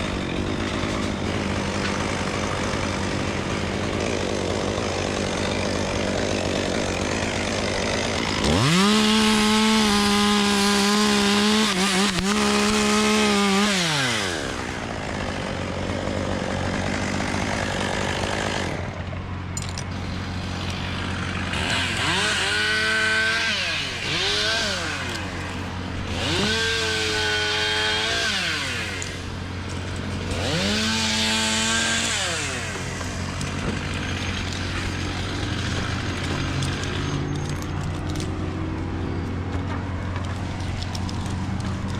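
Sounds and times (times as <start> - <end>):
chainsaw revving: 0.0 - 19.1, 19.8 - 39.5.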